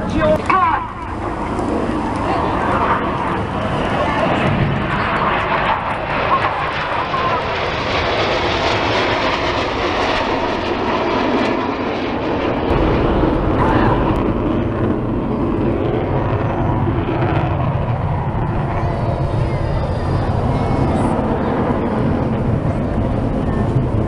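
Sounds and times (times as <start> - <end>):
deep jet rumble: 0.0 - 24.0
jet aircraft flying past: 0.0 - 24.0.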